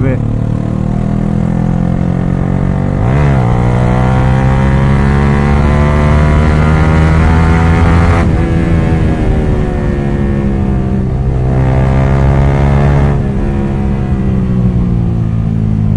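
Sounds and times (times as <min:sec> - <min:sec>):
motorcycle engine revving loud: 0:00.0 - 0:15.2.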